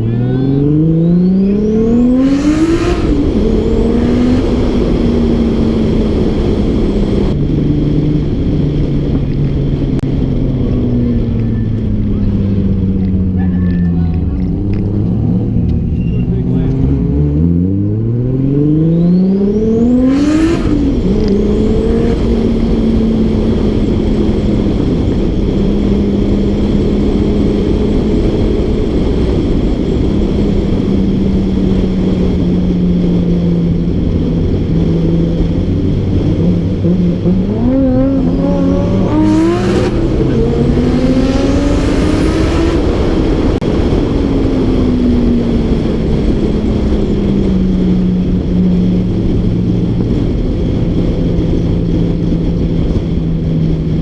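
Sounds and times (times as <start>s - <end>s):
car engine revving: 0.0s - 54.0s
gear change: 0.0s - 54.0s.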